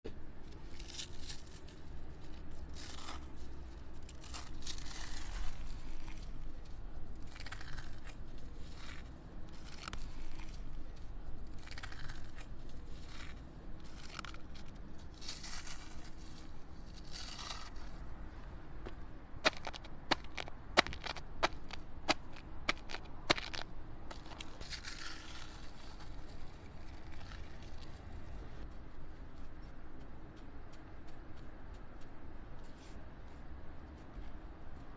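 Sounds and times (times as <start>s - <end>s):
scraping and crunching asphalt: 0.4s - 34.9s.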